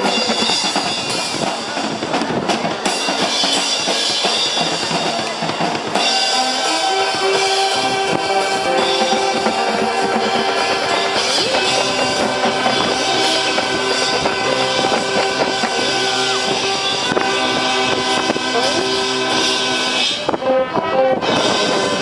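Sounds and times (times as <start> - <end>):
drum hits: 0.0 - 19.9
marching band playing chords: 0.0 - 22.0.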